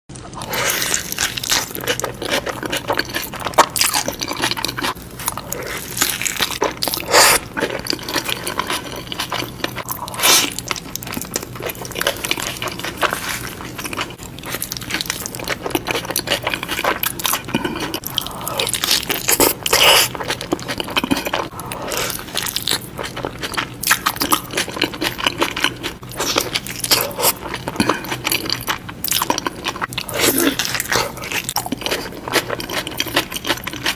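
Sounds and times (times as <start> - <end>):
biting and chewing food: 0.1 - 33.9
food crunching: 0.2 - 33.9.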